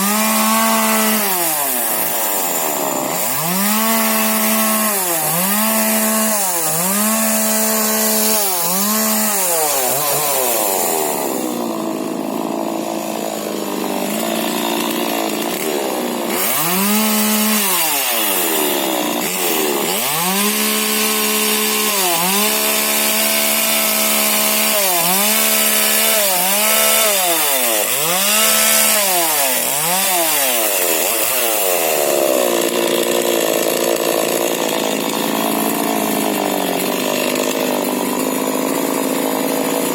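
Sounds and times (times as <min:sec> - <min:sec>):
chainsaw cutting branch: 0:00.0 - 0:39.9
chainsaw revving: 0:00.0 - 0:39.9.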